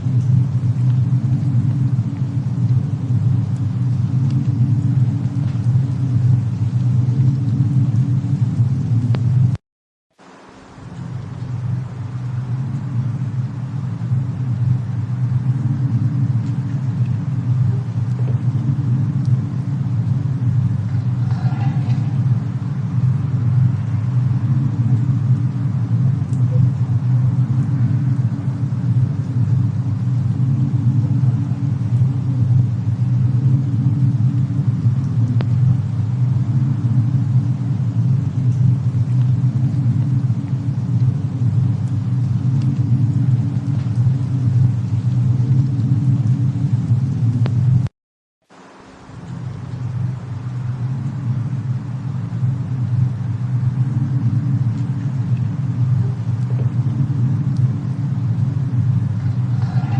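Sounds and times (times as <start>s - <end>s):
fireplace rumble: 0.0s - 9.6s, 10.2s - 47.9s, 48.5s - 59.9s
snowstorm ambience: 0.0s - 9.6s, 10.2s - 59.9s
faint fire crackles: 0.0s - 59.9s.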